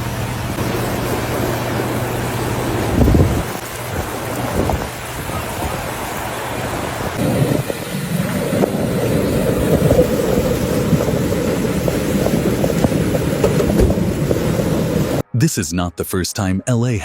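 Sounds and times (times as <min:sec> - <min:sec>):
flowing water rushing: 0:00.0 - 0:15.2
wind buffeting microphone: 0:00.5 - 0:15.2.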